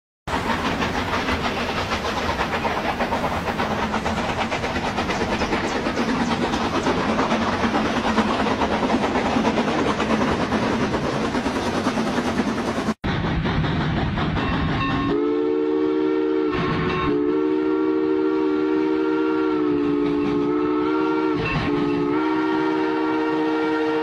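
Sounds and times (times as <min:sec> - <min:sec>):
steam hissing: 0:00.3 - 0:24.0
steam locomotives chuffing: 0:00.3 - 0:24.0.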